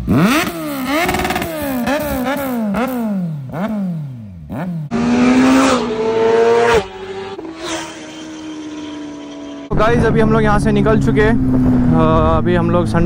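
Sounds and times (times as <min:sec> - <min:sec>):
motorcycle engine at high revs: 0:00.0 - 0:13.0
motorcycle engine revving: 0:00.0 - 0:13.0.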